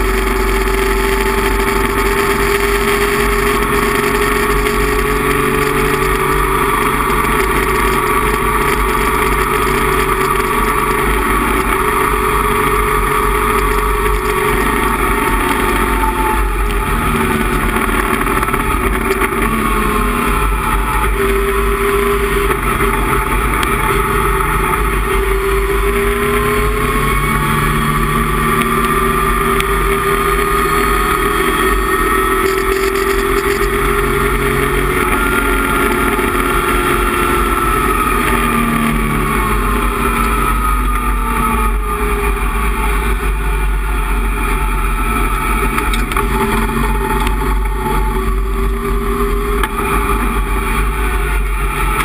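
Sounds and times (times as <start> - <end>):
race car engine under load: 0.0 - 52.0.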